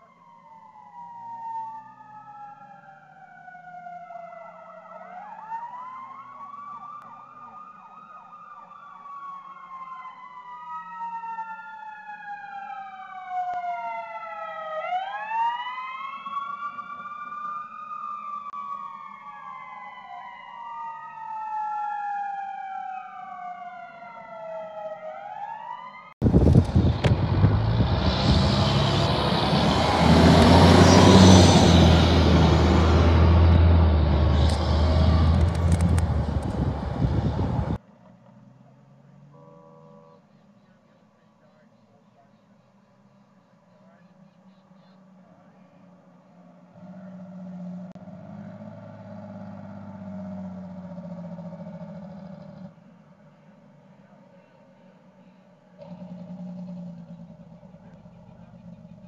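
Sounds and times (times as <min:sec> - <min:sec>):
fire engine driving past: 0:00.0 - 0:37.8, 0:45.1 - 0:59.0
distant sirens wailing: 0:00.0 - 0:59.0.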